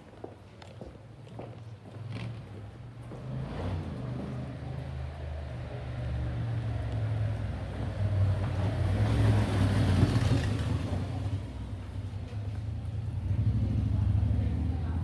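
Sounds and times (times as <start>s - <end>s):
vehicle engine humming: 1.6s - 15.0s.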